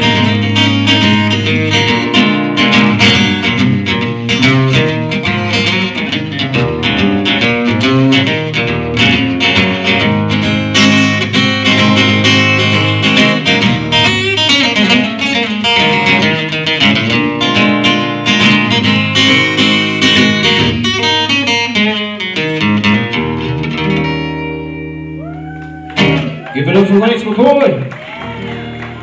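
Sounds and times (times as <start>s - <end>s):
fast acoustic guitar picking: 0.0s - 25.2s.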